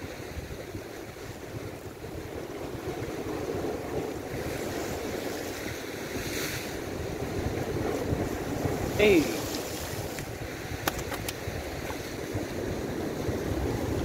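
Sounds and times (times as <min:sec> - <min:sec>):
sea surf against rocks: 0:00.0 - 0:14.0
wind buffeting microphone: 0:00.0 - 0:14.0.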